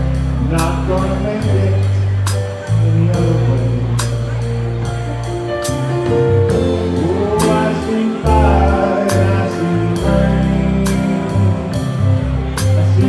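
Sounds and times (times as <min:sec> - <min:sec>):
big band playing slow song: 0:00.0 - 0:13.0.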